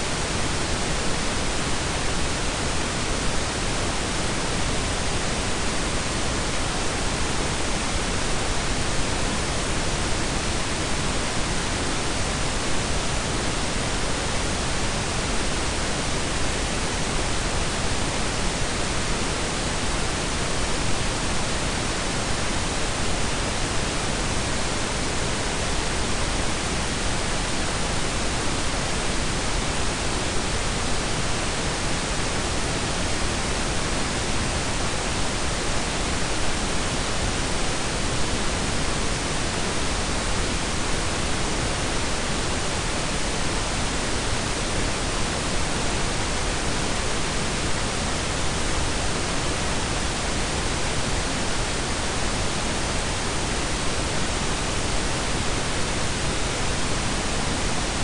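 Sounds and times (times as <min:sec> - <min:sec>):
synthetic noise hiss and rumble: 0:00.0 - 0:58.0.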